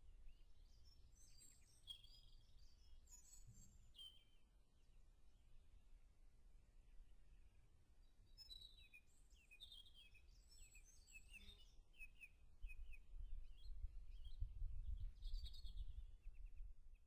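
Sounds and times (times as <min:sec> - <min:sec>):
songbirds singing and chirping: 0:00.0 - 0:05.4, 0:06.9 - 0:17.0.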